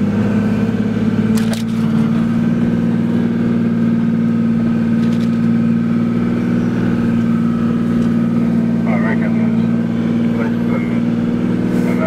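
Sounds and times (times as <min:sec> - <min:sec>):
engine running inside cabin: 0:00.0 - 0:12.0.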